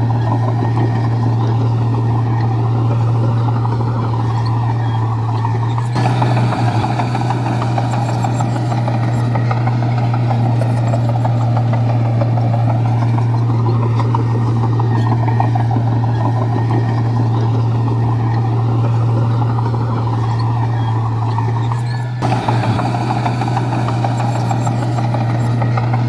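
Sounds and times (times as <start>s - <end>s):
bulldozer diesel engine: 0.0s - 26.0s.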